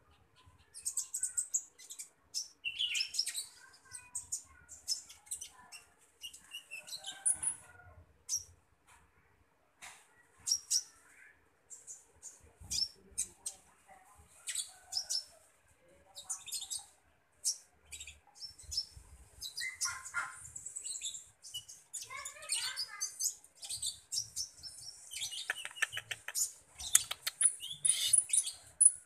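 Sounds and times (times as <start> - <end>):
songbird chirping and warbling: 0.0 - 8.6, 10.1 - 29.0.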